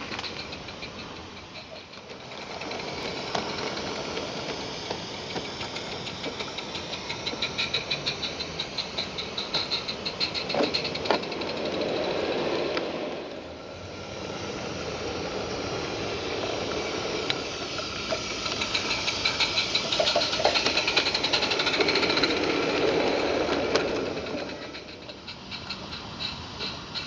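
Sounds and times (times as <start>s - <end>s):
steam hiss: 0.0s - 27.0s
steam locomotive exhaust beats: 0.0s - 27.0s.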